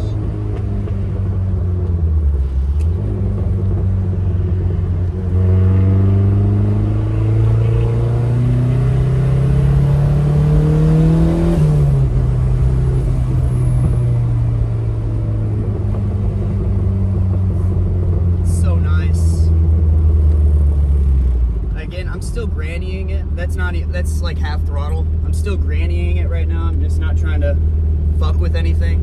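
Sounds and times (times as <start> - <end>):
car engine pulling: 0.0 - 29.0.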